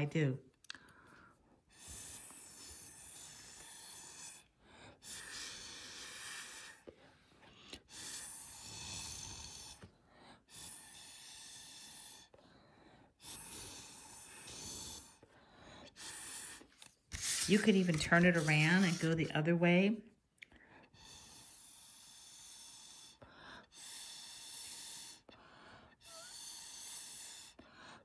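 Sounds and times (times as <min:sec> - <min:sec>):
breath blown through straw: 0:00.8 - 0:19.4, 0:20.9 - 0:28.0.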